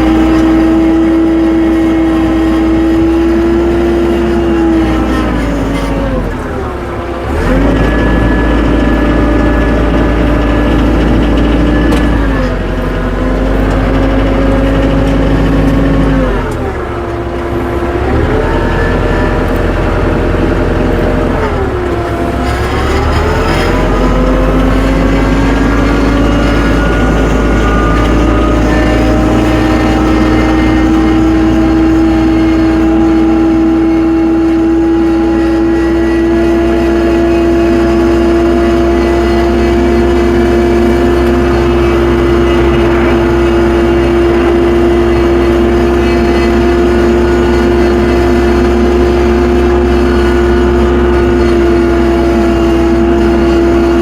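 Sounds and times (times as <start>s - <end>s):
low engine rumble: 0.0s - 54.0s
tractor engine whine: 0.0s - 54.0s.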